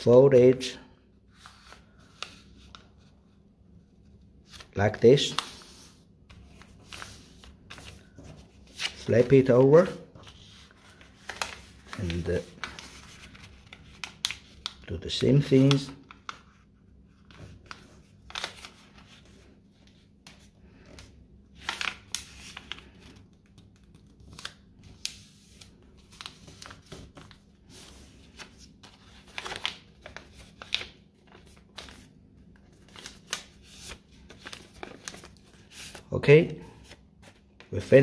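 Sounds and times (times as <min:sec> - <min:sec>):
paper rustling: 0:04.4 - 0:36.1, 0:36.7 - 0:38.0.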